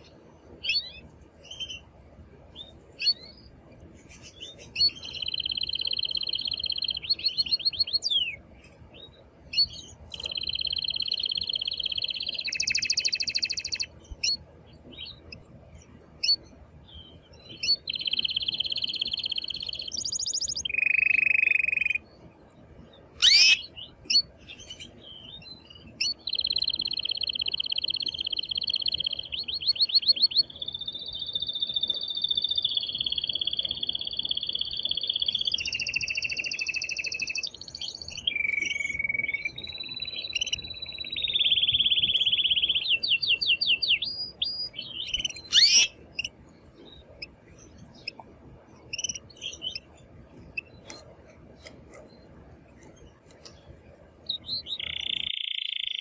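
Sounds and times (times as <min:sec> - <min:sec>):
canary singing trills: 0:00.0 - 0:01.9, 0:02.5 - 0:22.2, 0:23.0 - 0:56.0.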